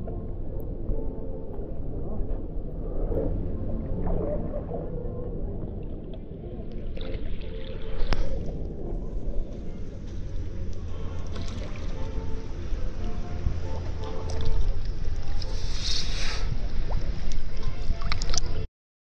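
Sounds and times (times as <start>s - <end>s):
muffled underwater rumbling: 0.0s - 18.7s
water sloshing and lapping: 3.2s - 18.6s.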